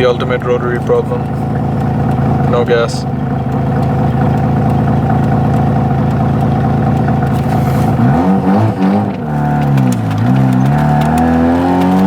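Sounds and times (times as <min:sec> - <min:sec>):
rotary engine idling and revving: 0:00.0 - 0:12.0.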